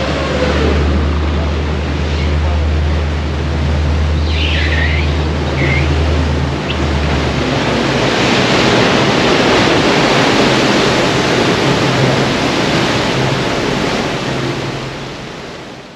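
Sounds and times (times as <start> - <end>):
low engine hum: 0.0 - 15.9
water rushing against a hull: 0.0 - 15.9.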